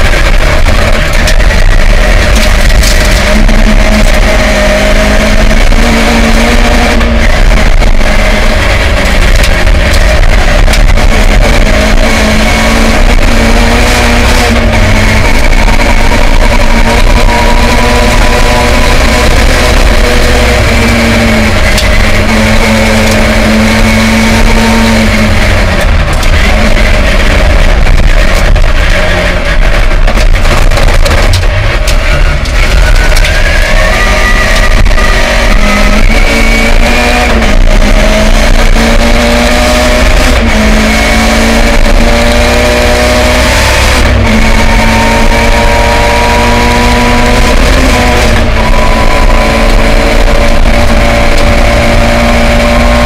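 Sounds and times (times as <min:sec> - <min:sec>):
rally car engine revving: 0:00.0 - 0:53.0
tyre and road noise: 0:00.0 - 0:53.0.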